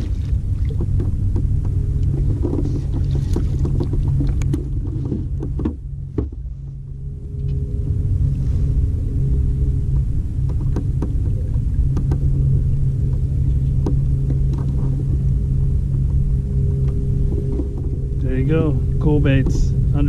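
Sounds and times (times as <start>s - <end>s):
low hum: 0.0s - 20.0s
low rumble: 0.0s - 20.0s.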